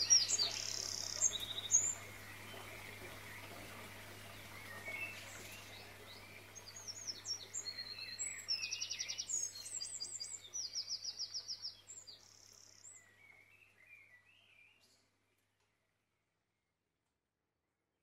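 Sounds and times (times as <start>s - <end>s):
songbirds singing: 0.0s - 15.8s.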